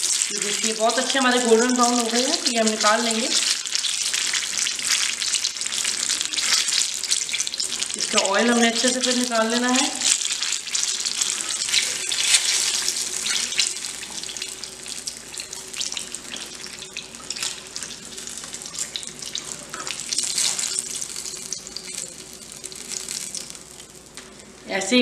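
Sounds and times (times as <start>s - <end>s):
hot oil sizzling and crackling: 0.0s - 24.6s.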